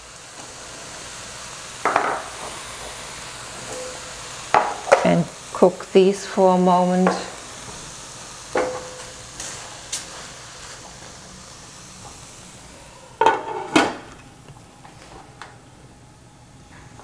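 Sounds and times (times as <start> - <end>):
vegetables sizzling in pan: 0.0 - 15.2.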